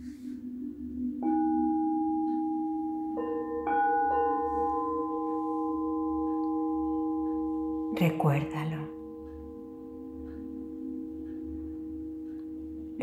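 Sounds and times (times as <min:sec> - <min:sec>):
singing bowls ringing: 0:00.8 - 0:13.0.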